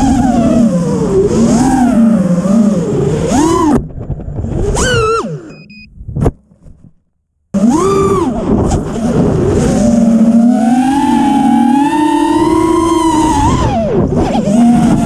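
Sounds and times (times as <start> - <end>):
quadcopter motors whining: 0.0 - 3.9, 4.6 - 5.8, 7.6 - 15.0.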